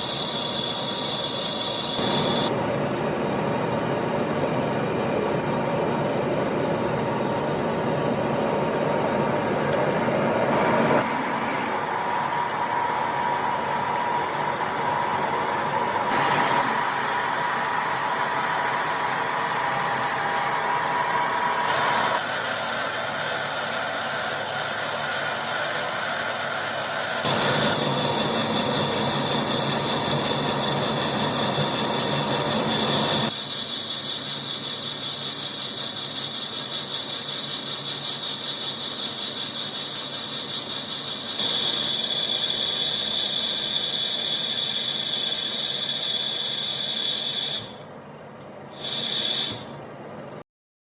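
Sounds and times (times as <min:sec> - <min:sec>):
lathe cutting metal: 0:00.0 - 0:02.5, 0:08.9 - 0:47.8, 0:48.8 - 0:49.8
high-pitched lathe whine: 0:00.0 - 0:48.0, 0:48.7 - 0:49.9.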